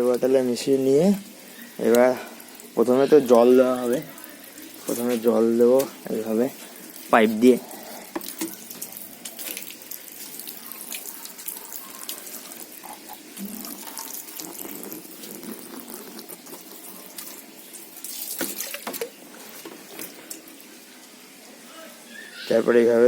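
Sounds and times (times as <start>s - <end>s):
hose water splashing on motorcycle: 0.0s - 21.7s.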